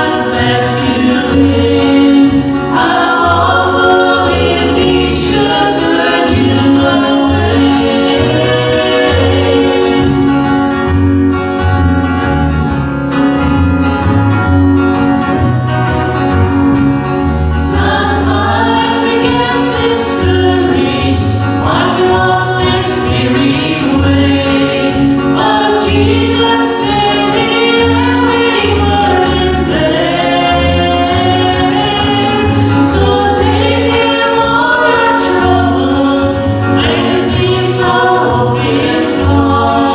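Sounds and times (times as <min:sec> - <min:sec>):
vocal group singing in harmony: 0:00.0 - 0:12.2, 0:15.9 - 0:39.9
rhythmic bass accompaniment: 0:00.0 - 0:39.9.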